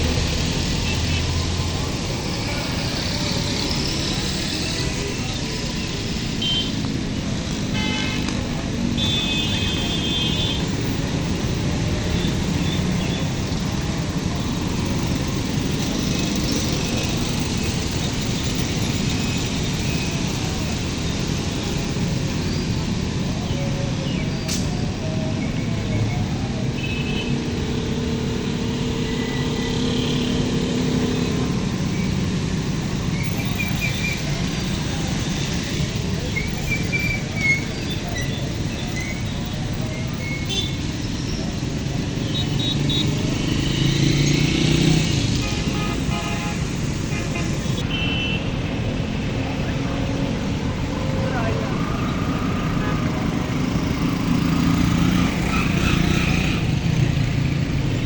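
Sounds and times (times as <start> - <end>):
vehicle engines passing: 0.0 - 58.0.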